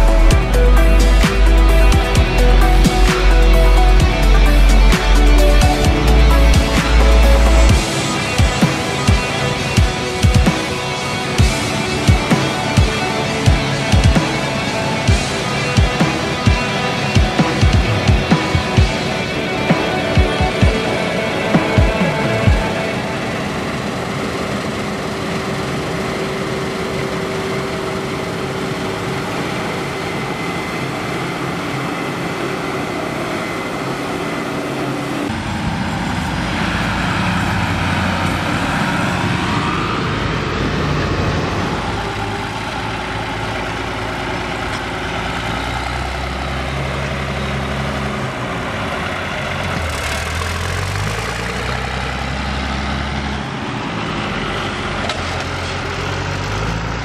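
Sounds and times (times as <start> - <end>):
combine harvester running: 0.0 - 57.0
tractor engine passing: 0.0 - 57.0.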